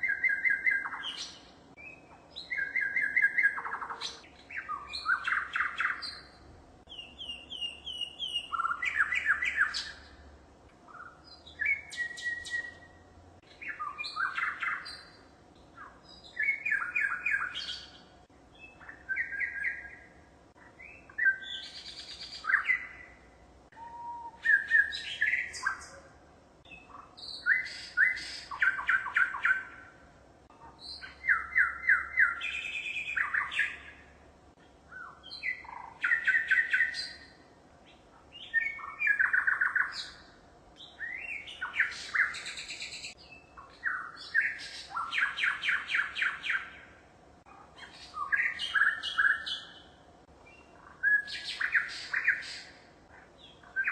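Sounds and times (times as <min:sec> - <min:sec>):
bird singing chirps and trills: 0:00.0 - 0:10.2, 0:10.8 - 0:34.1, 0:34.9 - 0:53.9.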